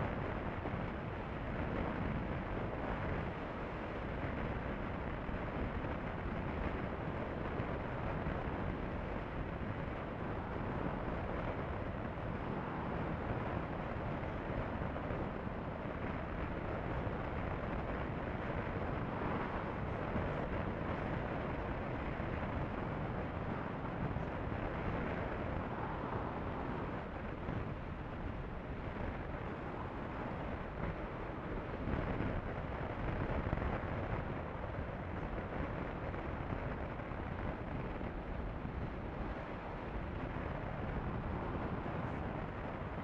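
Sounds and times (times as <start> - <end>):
motorcycle road noise: 0.0 - 43.0
wind rushing over microphone: 0.0 - 43.0.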